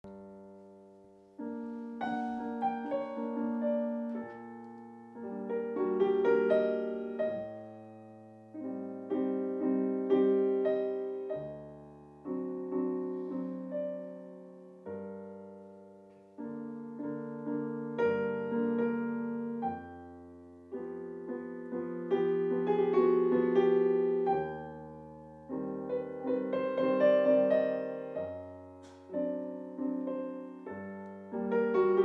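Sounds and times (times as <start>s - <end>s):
slow solo piano chords: 0.0s - 32.0s.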